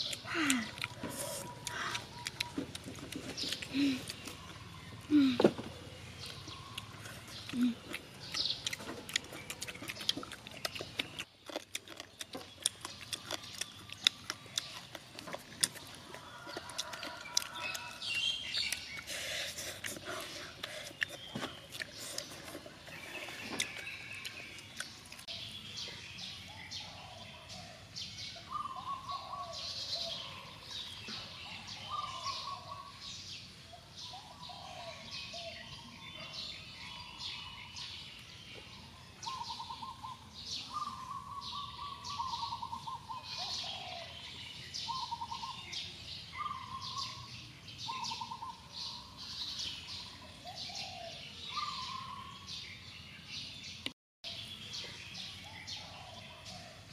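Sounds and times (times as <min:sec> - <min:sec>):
high bird chirping: 0:00.0 - 0:27.4, 0:34.1 - 0:56.6
trilled birdsong: 0:00.0 - 0:56.9.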